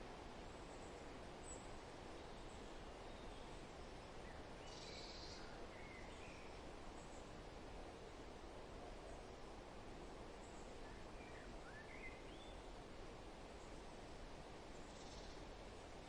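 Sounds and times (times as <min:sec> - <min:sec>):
wind-like rustle: 0:00.0 - 0:16.0.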